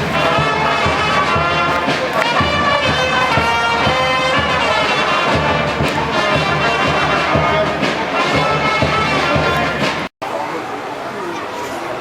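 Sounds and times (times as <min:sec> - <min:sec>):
brass music with beat: 0:00.0 - 0:10.1.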